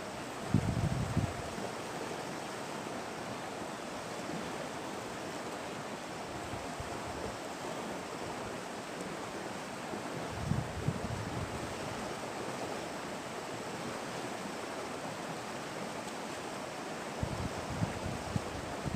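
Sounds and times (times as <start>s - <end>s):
flowing river water: 0.0s - 18.9s.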